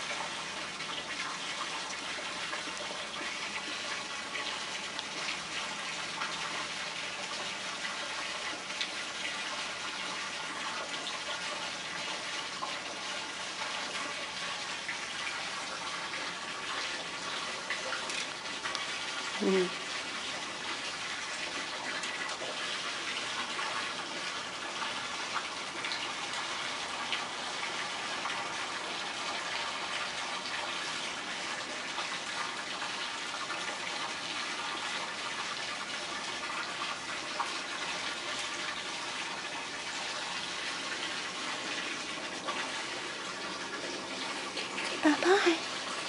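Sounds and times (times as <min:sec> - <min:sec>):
steady water-like rushing: 0:00.0 - 0:46.0.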